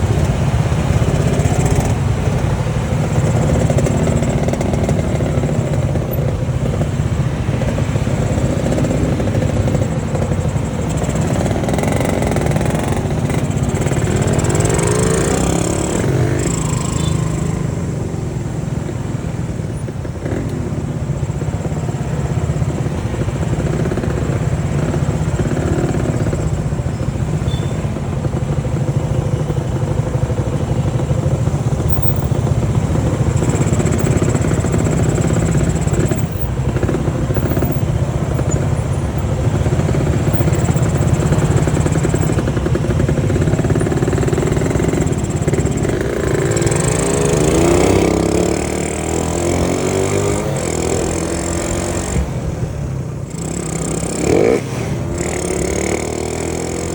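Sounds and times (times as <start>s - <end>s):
motorcycle engine running: 0.0s - 56.9s
road noise: 0.0s - 56.9s
wind: 0.0s - 56.9s.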